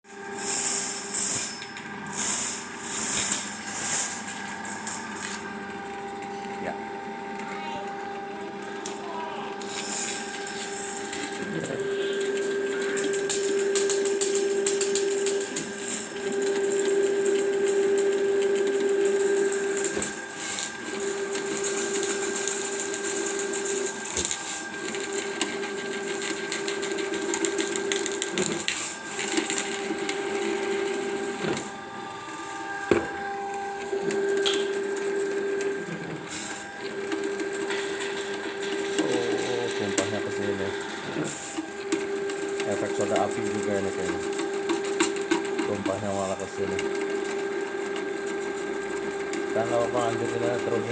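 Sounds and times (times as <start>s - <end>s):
drain-cleaning machine motor hum: 1.0s - 50.9s.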